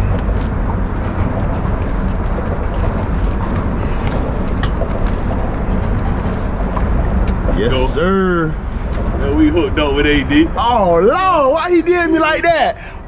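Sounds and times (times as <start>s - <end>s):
low outdoor rumble and hiss: 0.0s - 13.0s.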